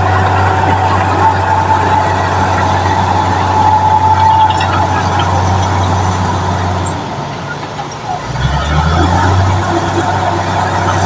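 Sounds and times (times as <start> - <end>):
engine whine: 0.0 - 11.0
heavy machine engine drone: 0.0 - 11.0.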